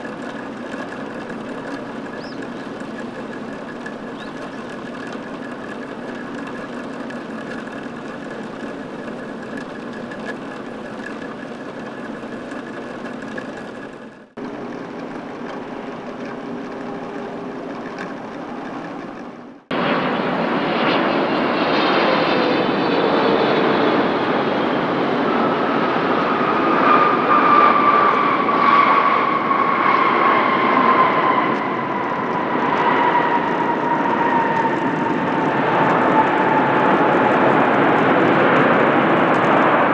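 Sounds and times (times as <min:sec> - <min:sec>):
jet engine noise: 0:00.0 - 0:39.9
jet turbofans whining at takeoff: 0:00.0 - 0:39.9.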